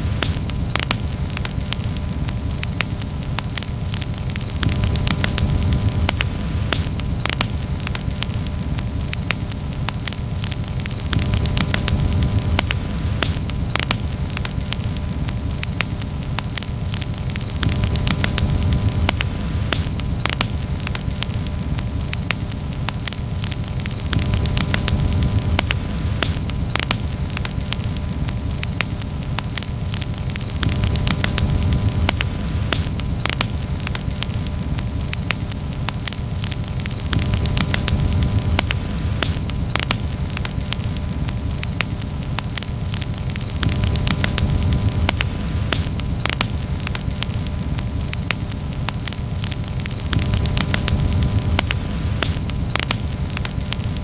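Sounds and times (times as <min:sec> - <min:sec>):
campfire pops and snaps: 0:00.0 - 0:54.0
steady low rumble: 0:00.0 - 0:54.0.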